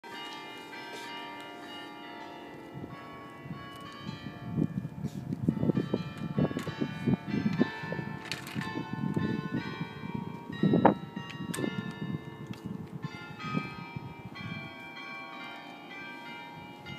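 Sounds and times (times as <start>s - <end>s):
bells ringing: 0.0s - 16.9s.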